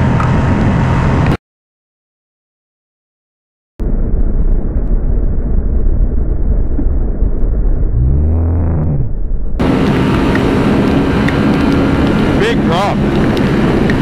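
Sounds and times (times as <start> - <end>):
wind and road noise: 0.0 - 1.4, 3.8 - 14.0.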